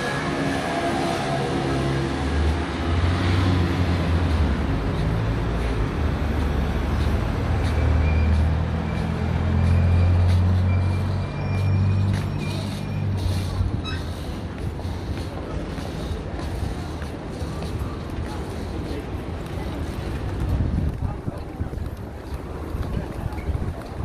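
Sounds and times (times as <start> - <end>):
heavy vehicle engine rumble: 0.0 - 24.0.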